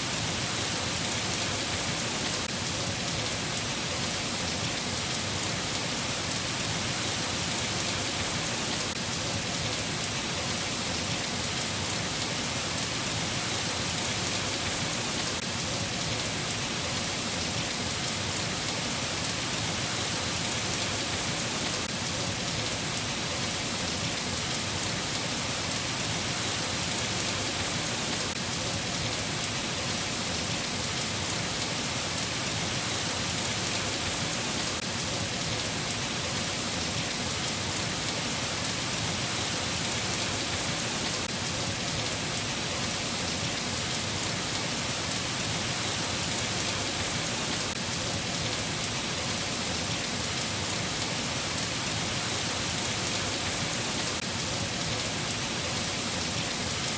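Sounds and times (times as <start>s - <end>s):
rain pattering: 0.1s - 56.9s.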